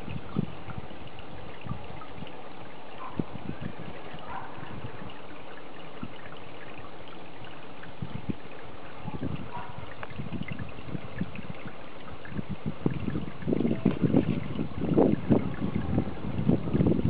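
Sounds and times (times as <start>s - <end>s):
water trickling: 0.0s - 17.0s
wind buffeting microphone: 0.0s - 17.0s.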